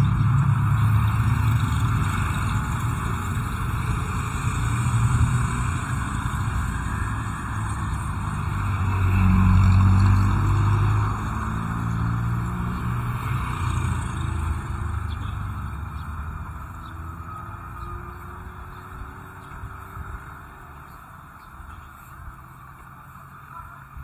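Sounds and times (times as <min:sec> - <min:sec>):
road noise: 0:00.0 - 0:24.0
vehicle engine running: 0:00.0 - 0:24.0.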